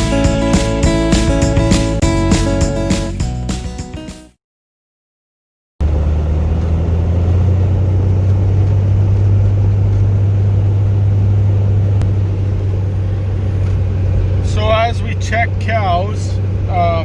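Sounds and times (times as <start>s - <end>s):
vehicle engine and road noise: 0.0s - 3.4s, 5.8s - 17.0s.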